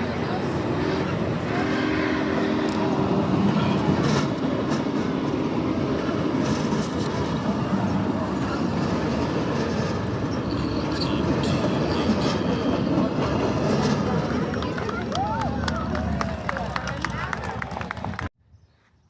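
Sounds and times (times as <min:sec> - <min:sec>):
train wheels rumbling on rail: 0:00.0 - 0:18.3.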